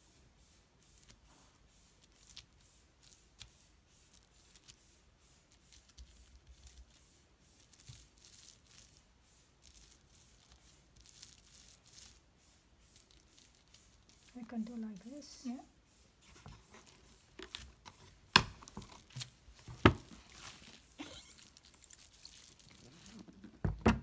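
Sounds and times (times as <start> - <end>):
bubble wrap crackling: 0.9 - 4.9, 5.5 - 23.6.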